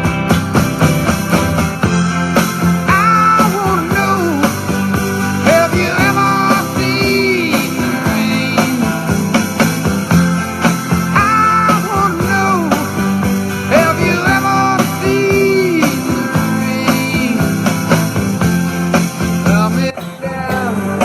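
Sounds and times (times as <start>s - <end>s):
rock song with singing: 0.0s - 21.0s.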